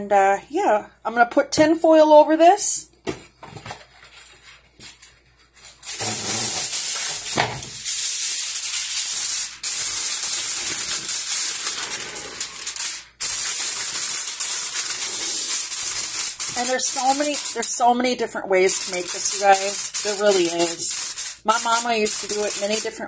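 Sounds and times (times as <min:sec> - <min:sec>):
aluminium foil crinkling: 0:03.5 - 0:17.8, 0:18.6 - 0:23.0.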